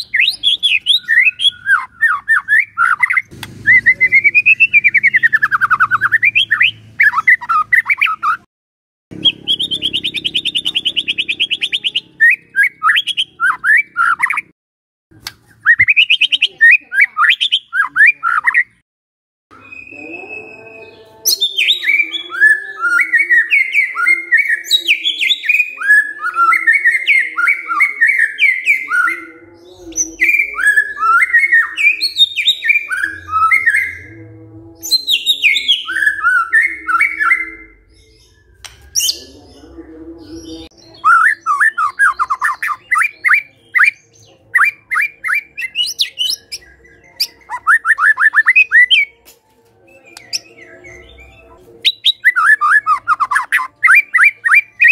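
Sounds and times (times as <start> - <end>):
bird singing whistled phrases: 0.0 - 8.4, 9.2 - 14.5, 15.6 - 18.8, 19.5 - 29.3, 30.0 - 34.1, 40.6 - 49.2, 49.9 - 54.9.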